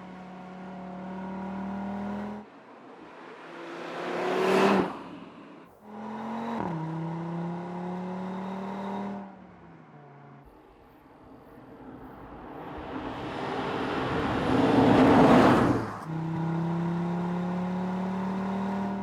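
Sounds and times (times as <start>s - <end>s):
car engine and sport exhaust: 0.0s - 19.0s.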